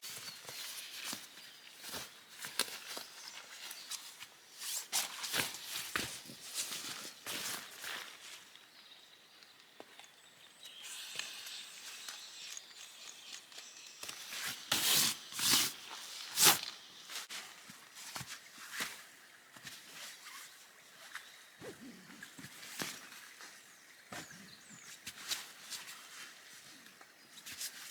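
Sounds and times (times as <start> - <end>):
rustling and crunching on woodland floor: 0.0 - 27.9.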